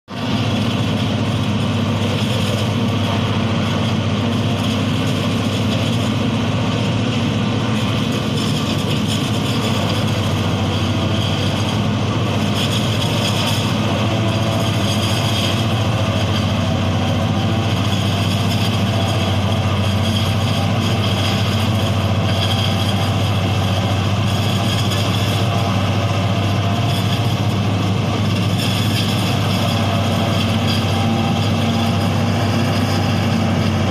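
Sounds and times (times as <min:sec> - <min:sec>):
forage harvester engine hum: 0:00.1 - 0:33.9
rush of cutting and blowing: 0:00.1 - 0:33.9.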